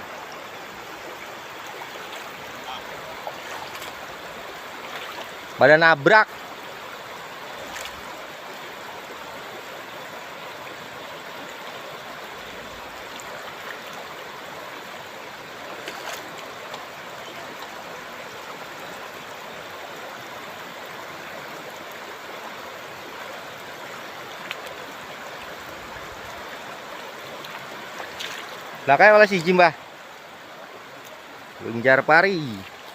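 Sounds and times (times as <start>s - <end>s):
river water babbling: 0.0s - 32.9s.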